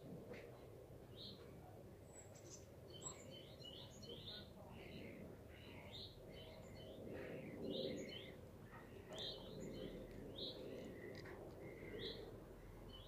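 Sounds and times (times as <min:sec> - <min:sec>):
low background hum: 0:00.0 - 0:13.0
songbirds chirping and singing: 0:02.1 - 0:13.0.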